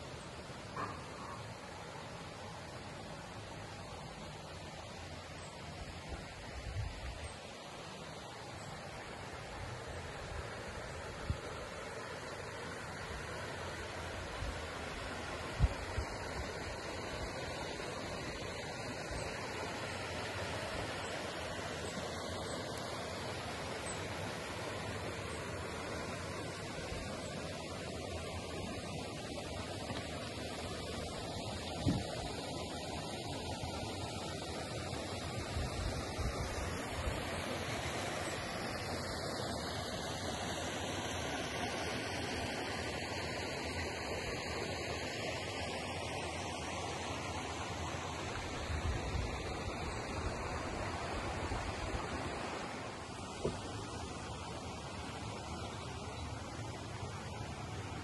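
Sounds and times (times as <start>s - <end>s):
river rushing over rocks: 0.1s - 58.0s.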